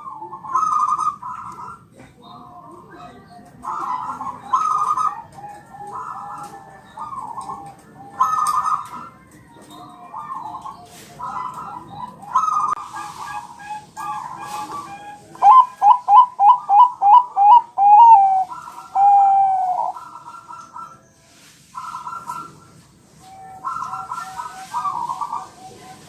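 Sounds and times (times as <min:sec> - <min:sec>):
doves cooing: 0:00.0 - 0:21.1, 0:21.7 - 0:26.0.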